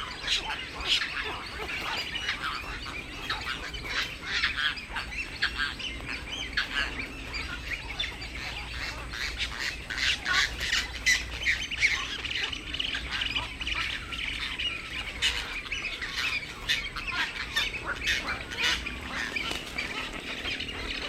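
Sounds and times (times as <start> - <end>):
many birds squawking and chirping: 0.0 - 21.0.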